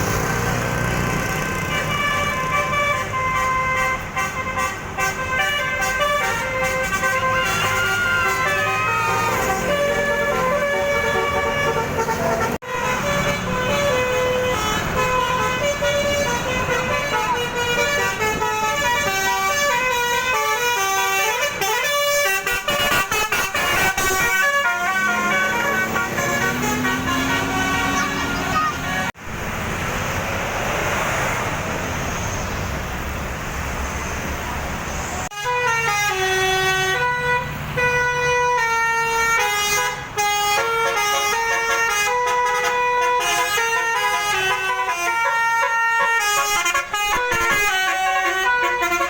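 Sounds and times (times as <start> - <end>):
multi-trumpet vehicle horn melody: 1.5 - 29.2, 35.3 - 49.0.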